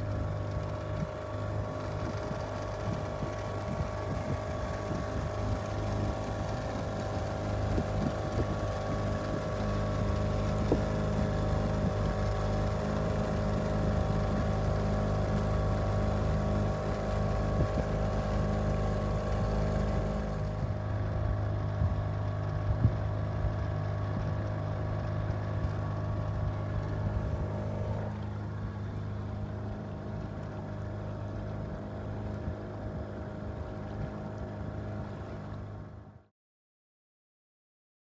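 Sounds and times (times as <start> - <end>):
outboard motor running: 0.0 - 36.3.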